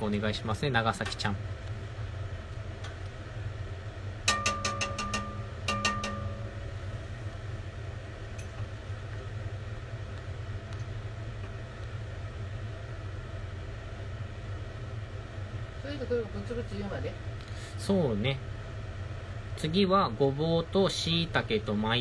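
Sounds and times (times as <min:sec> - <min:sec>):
gas burner rumbling: 0:00.0 - 0:22.0.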